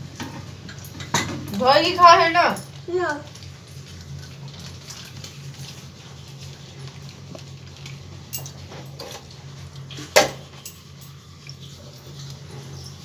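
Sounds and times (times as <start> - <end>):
pots and utensils clinking: 0.0 - 5.8, 6.8 - 13.0.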